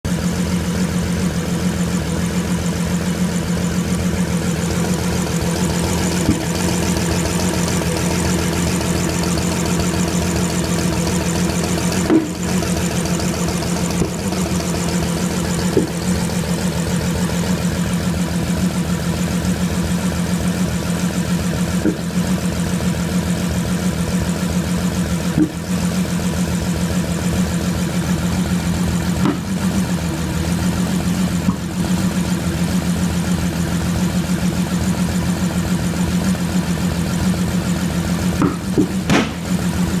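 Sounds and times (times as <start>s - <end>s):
car engine idling with misfires: 0.0s - 40.0s.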